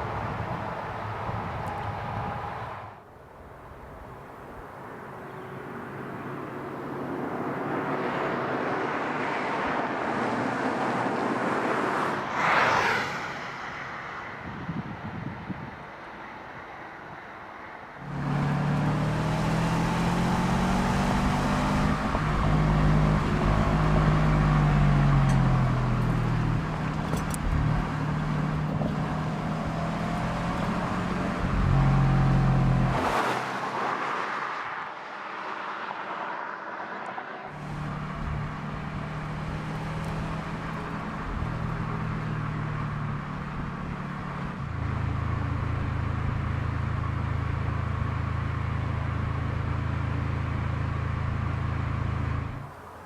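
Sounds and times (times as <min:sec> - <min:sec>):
car engine and exhaust: 0:00.0 - 0:53.0.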